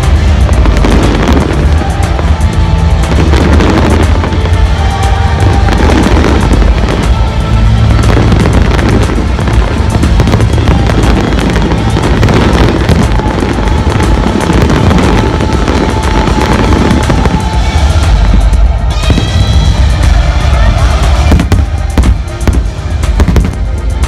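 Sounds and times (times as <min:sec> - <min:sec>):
fireworks booming: 0:00.0 - 0:20.2, 0:21.1 - 0:23.7
fireworks crackling: 0:00.0 - 0:24.0
music playing: 0:00.0 - 0:24.0.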